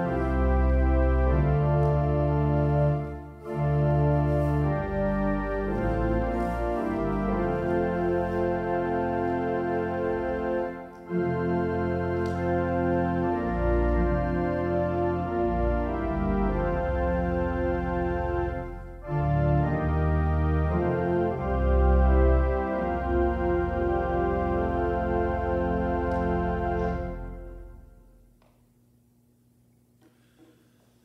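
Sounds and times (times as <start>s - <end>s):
church organ playing a hymn: 0.0s - 28.3s.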